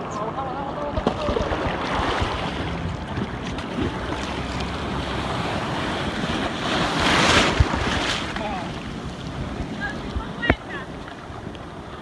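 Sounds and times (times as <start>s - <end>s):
jet ski engine running: 0.0s - 12.0s
water rushing: 0.0s - 12.0s
wind buffeting the microphone: 0.0s - 12.0s.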